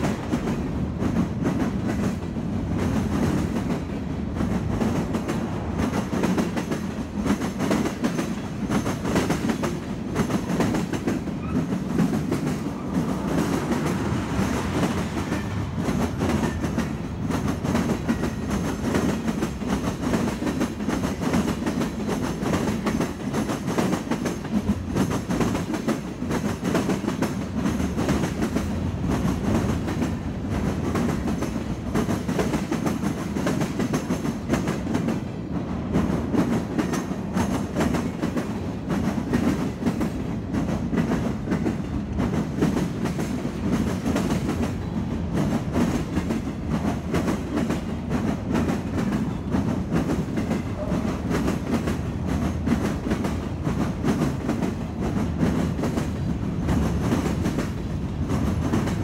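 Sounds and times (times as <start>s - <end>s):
train wheels rumbling on rails: 0.0s - 59.0s
wheels clickety-clack: 0.0s - 59.0s.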